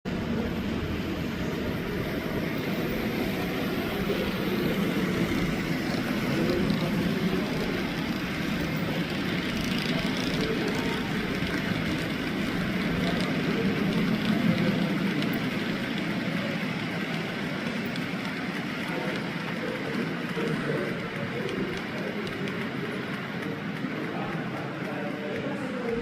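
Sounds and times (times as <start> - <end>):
model train rumbling on track: 0.1 - 26.0.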